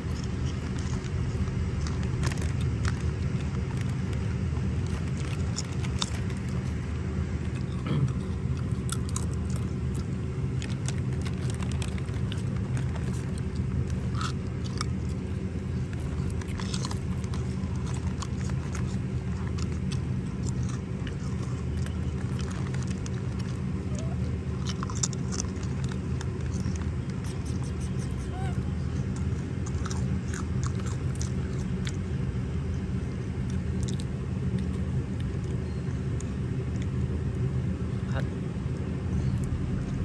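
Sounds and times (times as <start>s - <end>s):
monkey chewing crunchy chips: 0.0s - 40.0s
steady low hum: 0.0s - 40.0s.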